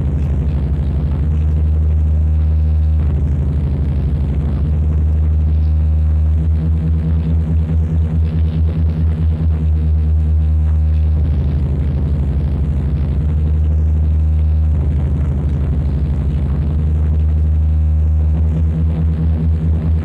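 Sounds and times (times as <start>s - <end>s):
pulsing low electronic drone: 0.0s - 20.0s.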